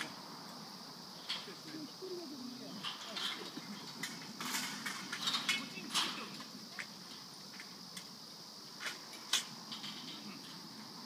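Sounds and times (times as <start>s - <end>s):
distant voices: 0.0s - 11.0s
insect drone: 0.0s - 11.0s.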